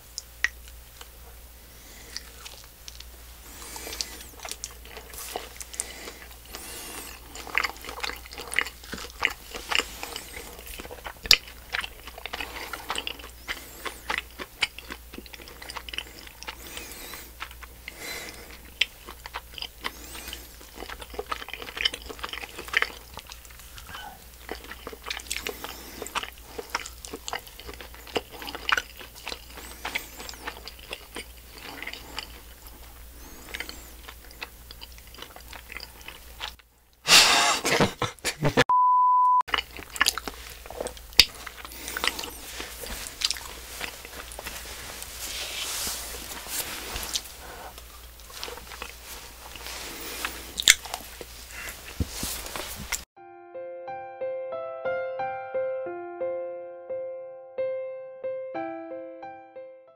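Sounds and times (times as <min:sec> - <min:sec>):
chewing and biting candy: 0:01.8 - 0:38.5, 0:39.5 - 0:53.1
mouth clicks and crackles: 0:02.0 - 0:38.6, 0:39.5 - 0:53.1.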